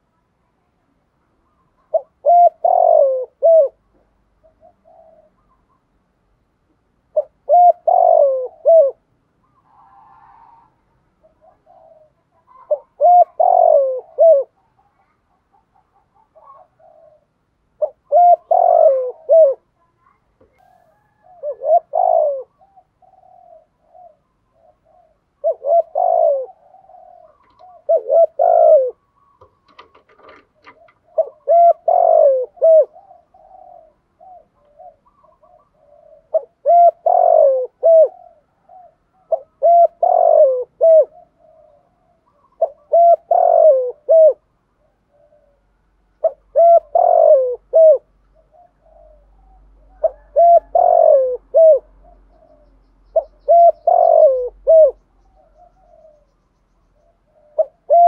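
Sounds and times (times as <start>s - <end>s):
dove cooing: 1.4s - 6.0s, 7.0s - 58.0s.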